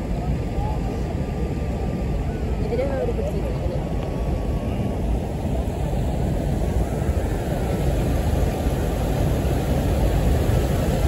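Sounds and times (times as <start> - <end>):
water rushing over a dam: 0.0 - 11.0.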